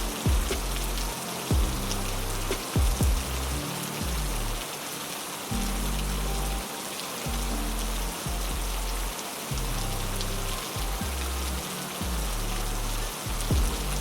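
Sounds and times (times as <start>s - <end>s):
low deep tones: 0.0s - 4.7s, 5.5s - 6.7s, 7.3s - 14.0s
heavy rain hissing: 0.0s - 14.0s.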